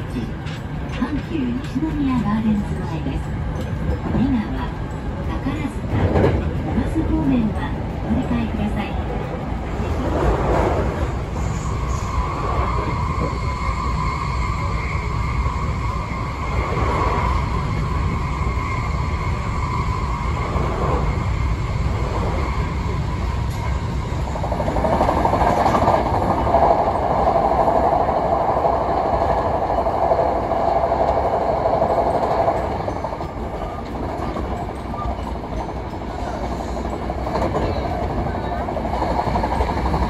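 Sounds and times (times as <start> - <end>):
train running rumble: 0.0 - 40.0.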